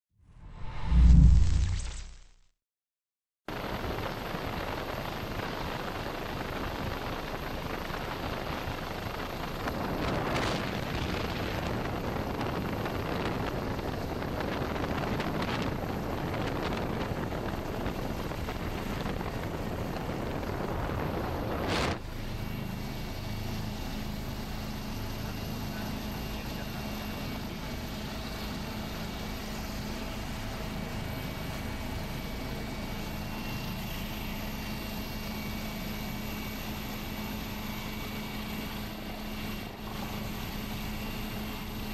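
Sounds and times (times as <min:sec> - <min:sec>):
helicopter engine and rotors: 0:03.5 - 0:41.9.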